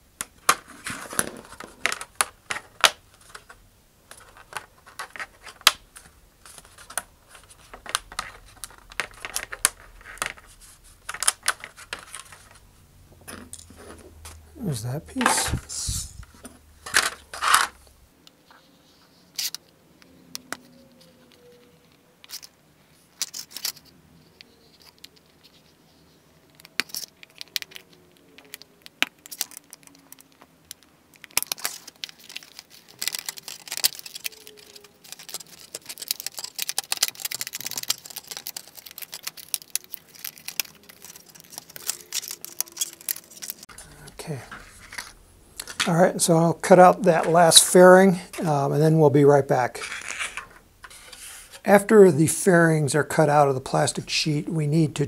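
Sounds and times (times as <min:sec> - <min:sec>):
plastic crinkling and crackling: 0:00.2 - 0:18.0, 0:19.0 - 0:48.6.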